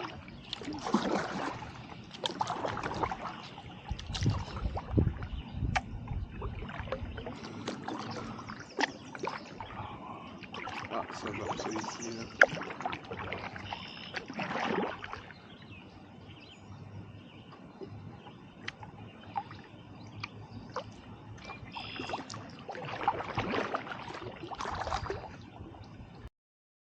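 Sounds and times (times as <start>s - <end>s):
paddle strokes splashing: 0.0s - 15.7s, 17.5s - 25.7s.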